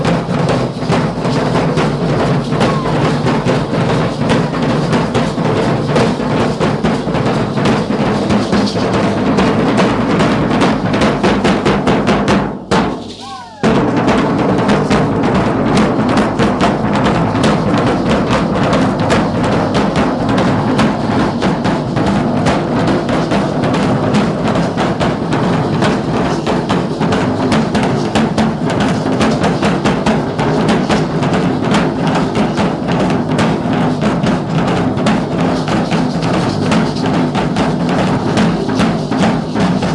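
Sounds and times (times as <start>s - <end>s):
drums beating fast rhythm: 0.0s - 39.9s.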